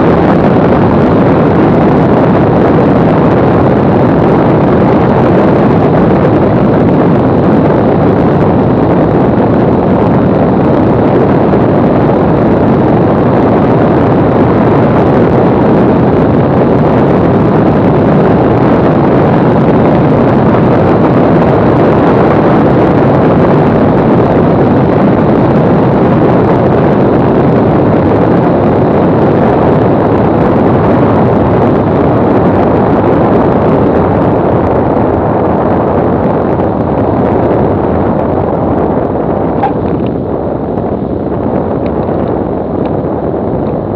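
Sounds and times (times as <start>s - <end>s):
rushing airflow: 0.0s - 43.9s.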